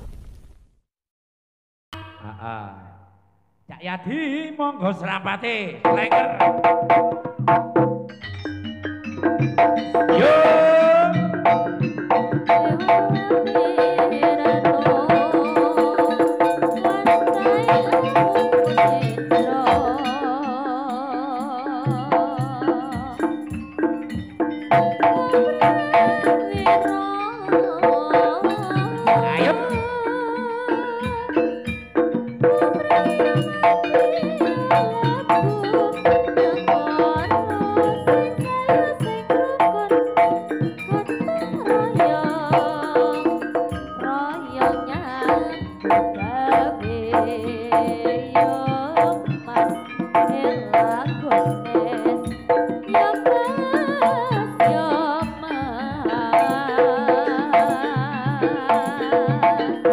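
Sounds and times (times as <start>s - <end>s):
hand drum beating: 5.9s - 59.9s
ringing metal notes: 5.9s - 59.9s.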